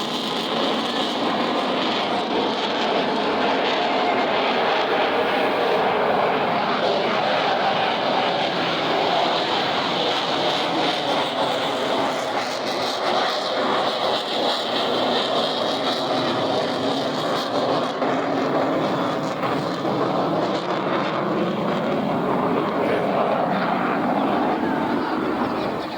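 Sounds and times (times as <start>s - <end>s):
jet roar passing overhead: 0.0s - 25.9s.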